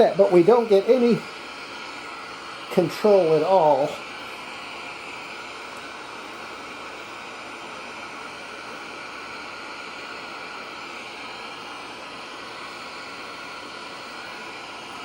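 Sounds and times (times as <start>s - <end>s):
tv static hiss: 0.0s - 15.0s.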